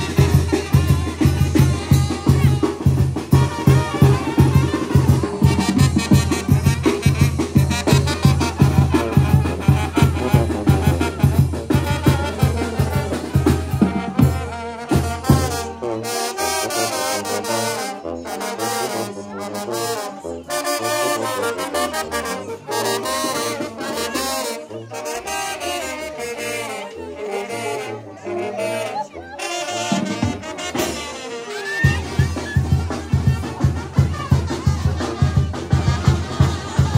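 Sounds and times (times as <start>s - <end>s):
drums keeping steady beat: 0.0s - 26.4s, 29.4s - 36.9s
brass band playing dance music: 0.0s - 36.9s.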